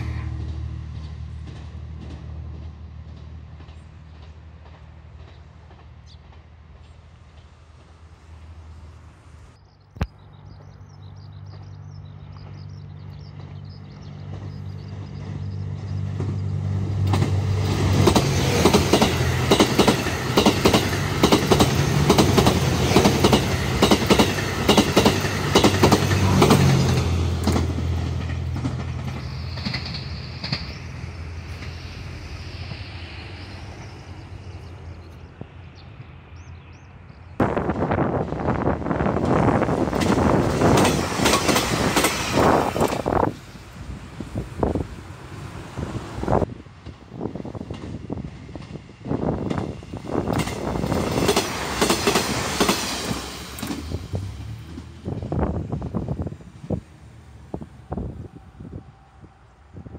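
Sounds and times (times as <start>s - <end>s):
wheels clickety-clack over rail joints: 0.0s - 8.7s, 10.6s - 35.6s, 37.6s - 57.7s
train engine drone: 0.0s - 59.9s.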